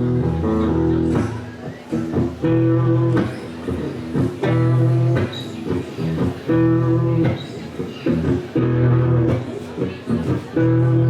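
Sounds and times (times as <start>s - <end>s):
amplified guitar chords: 0.0s - 11.0s
bass guitar: 0.0s - 11.0s.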